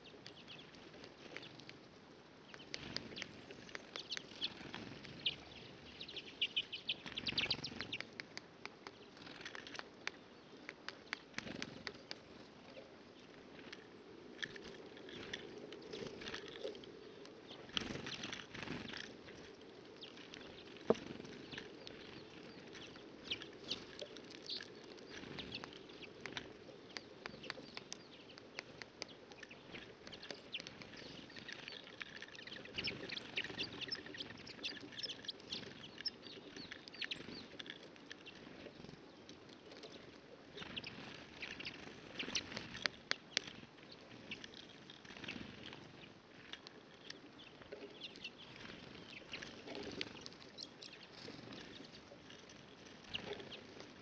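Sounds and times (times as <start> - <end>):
birds pecking seeds: 0.0 - 54.0.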